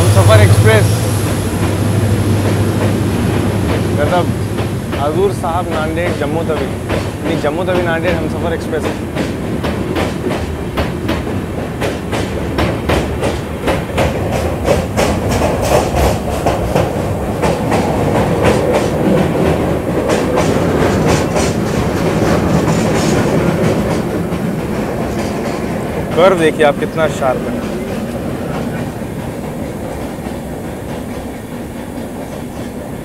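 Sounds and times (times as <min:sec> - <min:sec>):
train rumble: 0:00.0 - 0:33.0
wheels clickety-clack over rail joints: 0:00.0 - 0:33.0.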